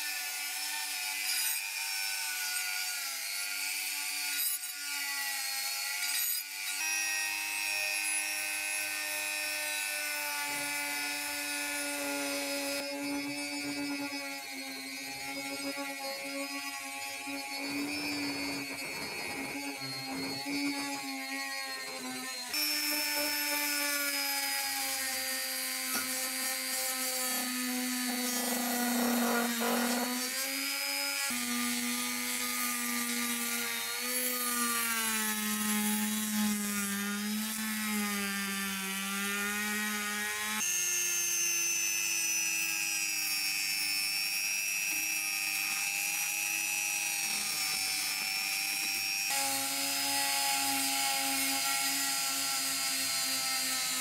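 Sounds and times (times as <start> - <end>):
rotary tool grinding metal: 0.0 - 54.0.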